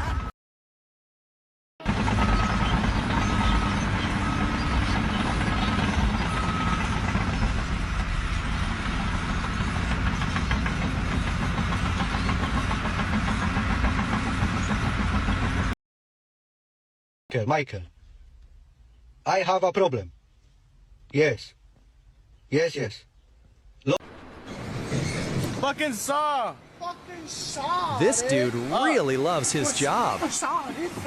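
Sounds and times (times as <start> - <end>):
engine low rumble: 1.8 - 15.8, 17.7 - 31.0.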